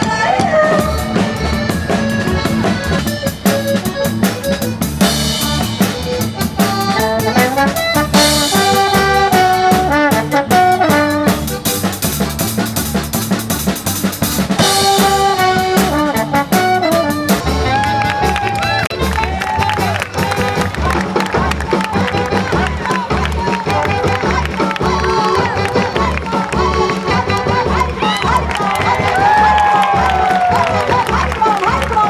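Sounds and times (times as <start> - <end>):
saxophone and brass horns: 0.0 - 32.0
steady drum beat: 0.0 - 32.0.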